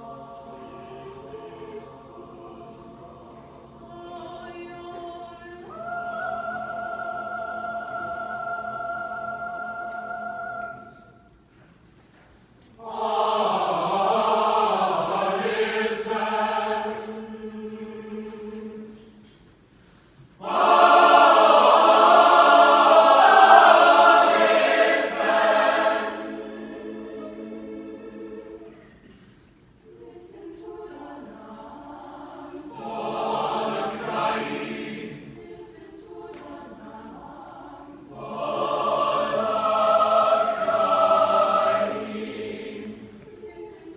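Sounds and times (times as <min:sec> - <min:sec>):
choir singing: 0:00.0 - 0:11.3, 0:12.8 - 0:19.3, 0:20.4 - 0:29.2, 0:29.8 - 0:43.9.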